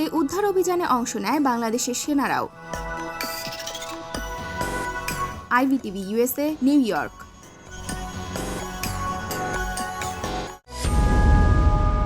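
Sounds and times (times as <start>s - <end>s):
background music: 0.0s - 11.2s.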